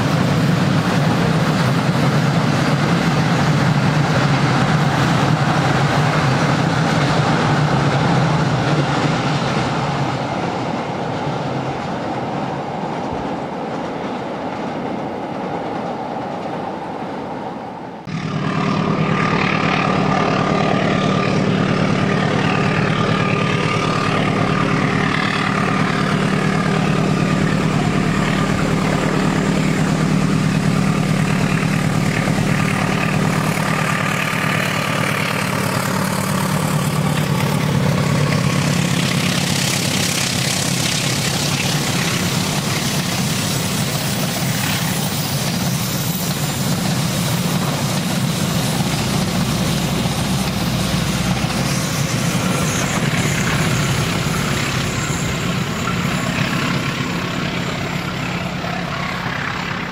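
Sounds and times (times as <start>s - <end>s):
locomotive engine running: 0.0s - 17.4s, 18.0s - 59.9s
train wheels rolling on rails: 0.0s - 59.9s.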